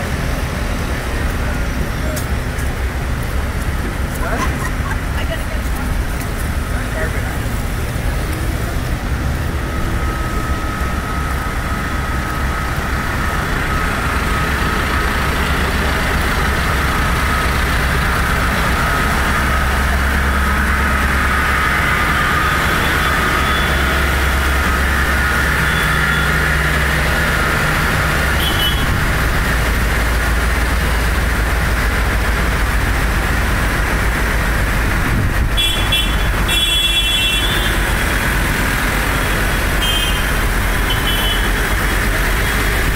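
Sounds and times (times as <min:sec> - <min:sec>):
tractor diesel engines droning: 0:00.0 - 0:42.9.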